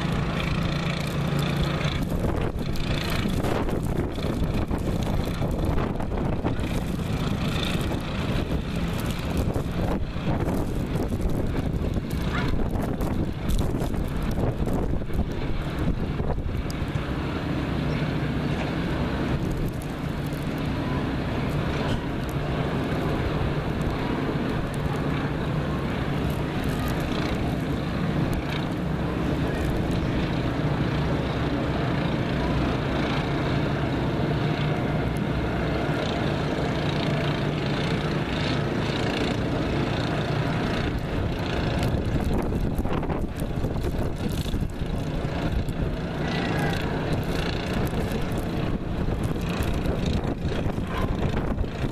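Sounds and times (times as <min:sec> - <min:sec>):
blizzard wind on microphone: 0:00.0 - 0:51.9.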